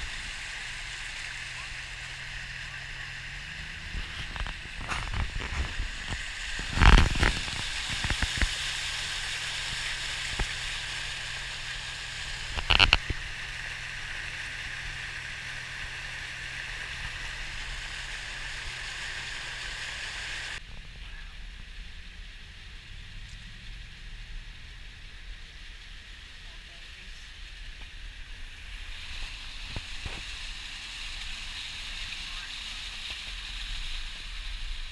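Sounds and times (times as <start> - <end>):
hum inside vehicle cab: 0.0 - 34.9
tyre spray through floodwater: 0.0 - 34.9.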